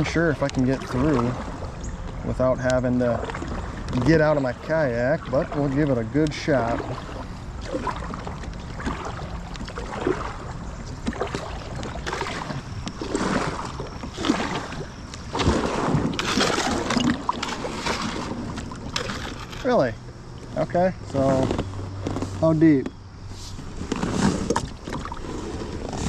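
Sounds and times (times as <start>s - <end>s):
kayak hull scraping rocks: 0.0s - 19.9s, 20.7s - 26.0s
paddle splashes: 0.0s - 20.6s, 21.2s - 26.0s.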